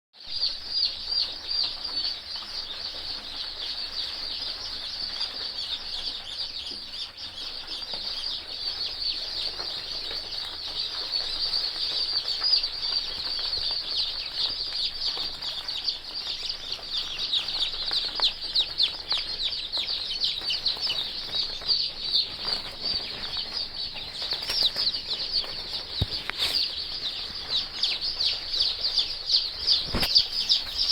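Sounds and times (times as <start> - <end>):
chicks peeping: 0.2 - 30.9.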